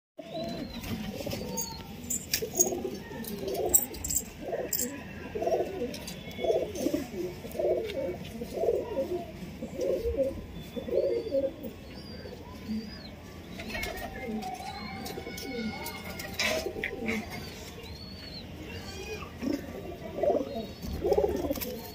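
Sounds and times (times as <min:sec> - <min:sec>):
pigeons cooing: 0:00.2 - 0:18.2, 0:18.8 - 0:21.9.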